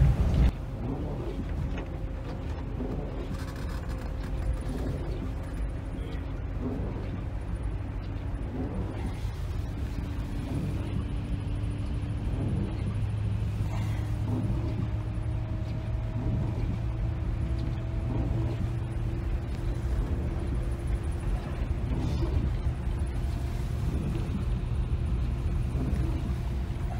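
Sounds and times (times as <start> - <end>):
bus engine and road rumble: 0.0 - 26.9.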